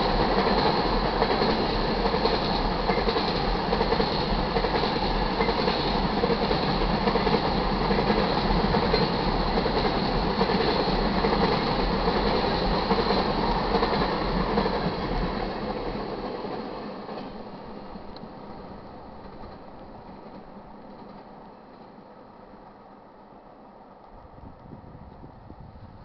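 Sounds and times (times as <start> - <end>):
freight train wheels on rails: 0.0 - 26.0.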